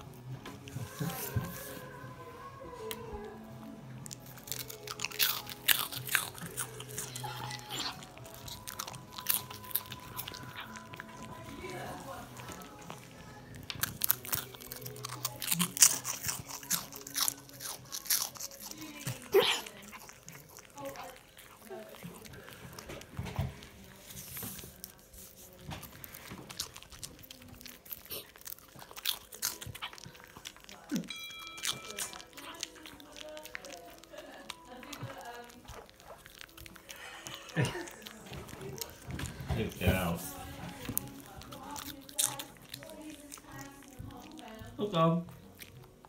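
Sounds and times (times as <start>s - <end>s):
dog crunching crackers: 4.0s - 46.0s.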